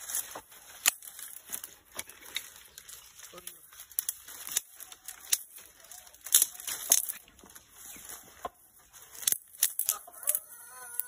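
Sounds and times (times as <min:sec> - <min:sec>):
sticks snapping: 0:00.0 - 0:07.6, 0:08.3 - 0:11.0
dry sticks rustling and crackling: 0:00.0 - 0:11.0.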